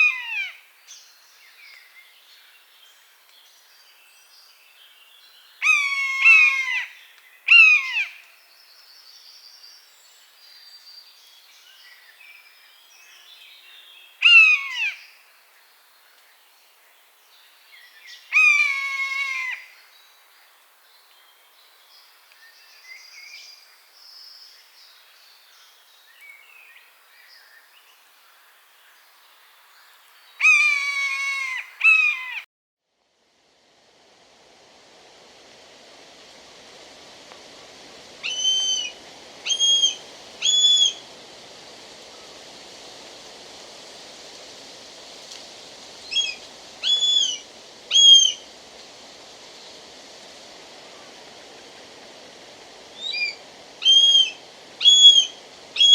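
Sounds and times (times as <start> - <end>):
background hiss: 0.0 - 55.9.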